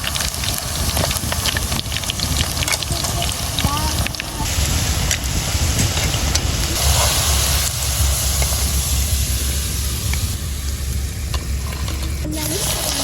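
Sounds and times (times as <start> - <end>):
food frying in hot oil: 0.0 - 13.0
low rumble: 0.0 - 13.0.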